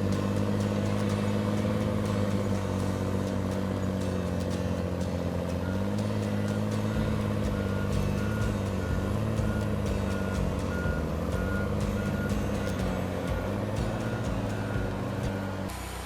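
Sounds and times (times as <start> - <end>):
reversing alarm beeping: 0.0 - 15.7
heavy machine engine running: 0.0 - 16.0.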